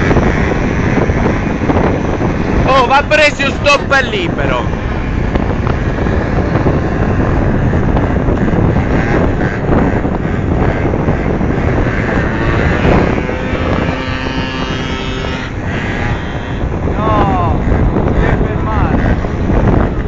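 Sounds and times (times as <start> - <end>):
moving vehicle rumble: 0.0 - 20.0
wind buffeting microphone: 0.0 - 20.0.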